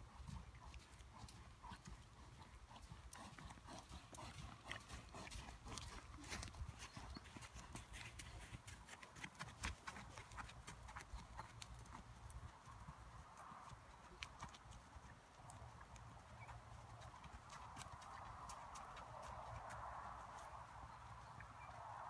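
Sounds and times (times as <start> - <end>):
horse hoofbeats on sand: 0.1 - 20.6.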